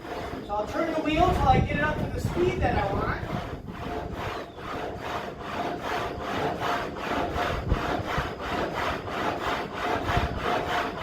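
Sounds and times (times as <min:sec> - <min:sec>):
saw blade working up and down: 0:00.0 - 0:11.0.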